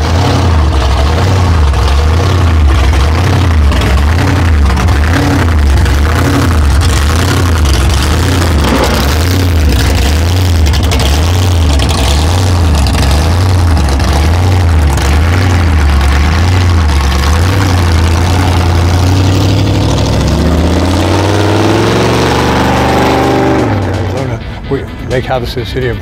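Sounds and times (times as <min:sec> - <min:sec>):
car engine idling lumpily: 0:00.0 - 0:21.7, 0:23.5 - 0:26.0.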